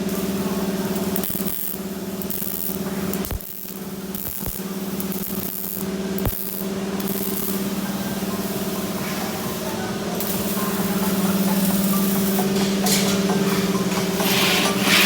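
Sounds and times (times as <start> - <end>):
steady hum: 0.0 - 15.0
welding arc hissing and crackling: 0.0 - 15.0.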